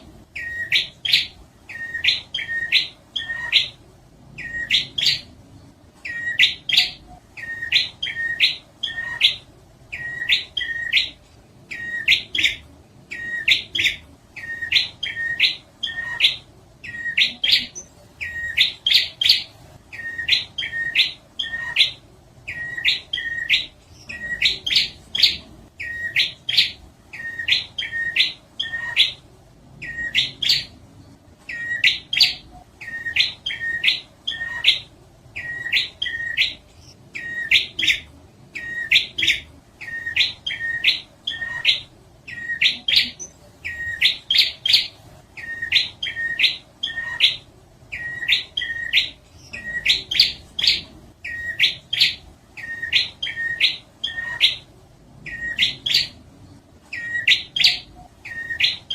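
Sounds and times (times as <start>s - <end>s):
bird song upward-sweeping notes: 0.0s - 3.8s, 6.0s - 29.2s, 29.8s - 58.9s.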